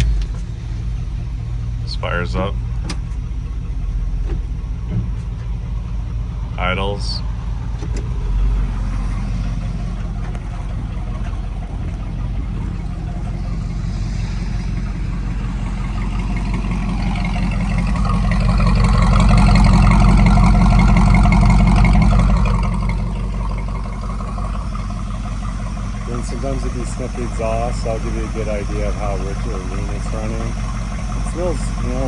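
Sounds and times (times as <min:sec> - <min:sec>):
pickup engine idling: 0:00.0 - 0:32.0.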